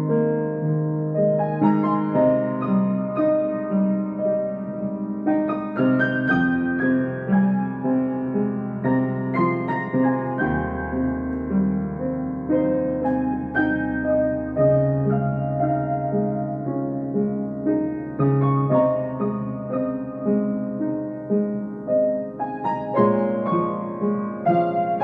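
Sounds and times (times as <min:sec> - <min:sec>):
slow gentle piano melody: 0:00.0 - 0:25.0.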